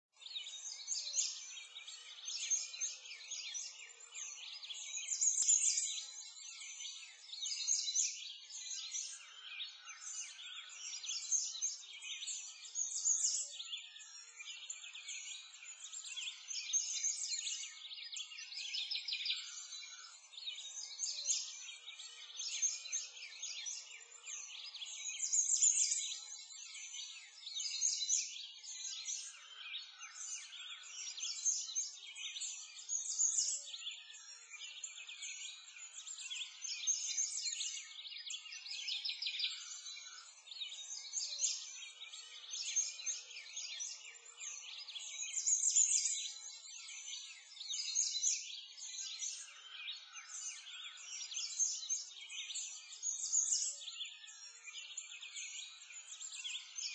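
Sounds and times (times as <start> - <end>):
songbirds chirping and singing: 0.0 - 56.9.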